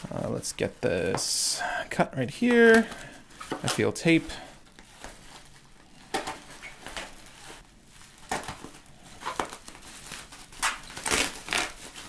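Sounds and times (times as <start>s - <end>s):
bubble wrap crinkling and tearing: 2.3s - 12.0s.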